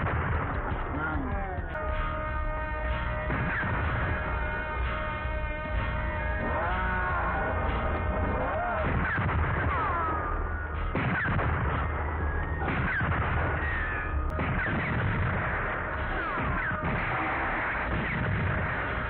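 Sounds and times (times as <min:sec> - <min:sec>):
gunfire: 0:00.0 - 0:02.2, 0:03.2 - 0:19.0
blasts: 0:00.0 - 0:19.0
continuous rumble: 0:00.0 - 0:19.0
sharp hits: 0:00.0 - 0:19.0.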